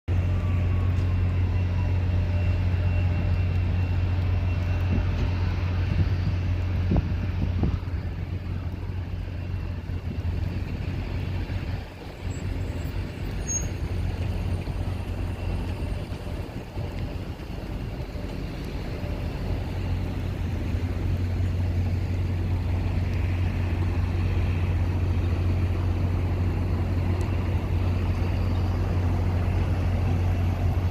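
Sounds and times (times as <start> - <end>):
jet engines rumbling with whine: 0.1 - 30.9.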